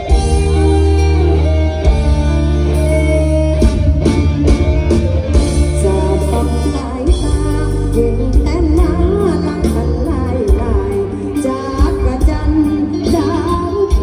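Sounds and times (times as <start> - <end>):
lead guitar: 0.0 - 14.0.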